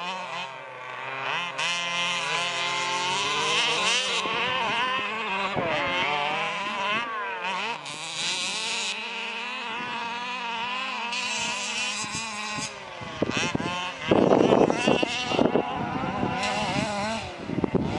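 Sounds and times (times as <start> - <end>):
small two-stroke engines revving: 0.0 - 17.9.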